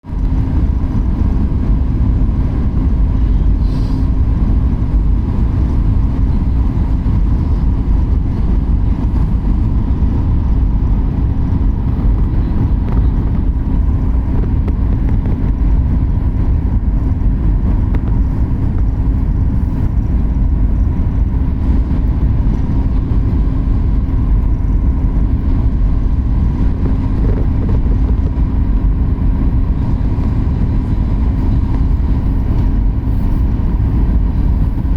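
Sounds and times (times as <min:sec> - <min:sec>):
constant hum: 0:00.0 - 0:34.9
jet cabin engine rumble: 0:00.0 - 0:34.9.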